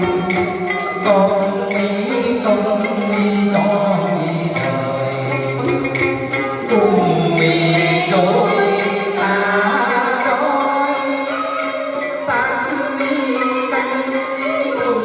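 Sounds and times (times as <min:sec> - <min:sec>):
song with sliding held notes: 0:00.0 - 0:15.0
steady musical accompaniment: 0:00.0 - 0:15.0.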